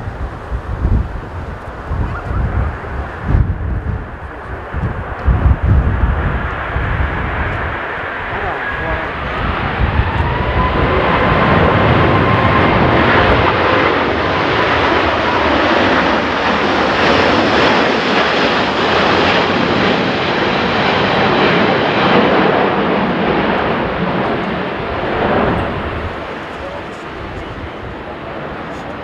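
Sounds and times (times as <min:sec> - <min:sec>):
jet engines roaring: 0:00.0 - 0:29.0
wind buffeting microphone: 0:00.0 - 0:29.0.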